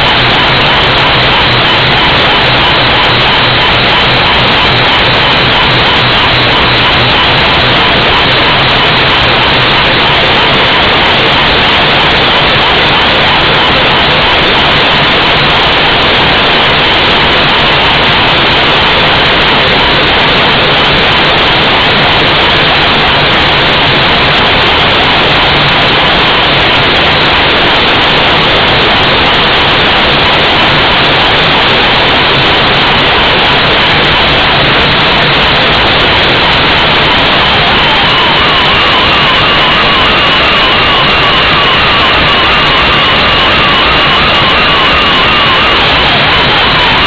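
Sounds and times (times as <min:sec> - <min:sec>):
faint hum: 0:00.0 - 0:47.0.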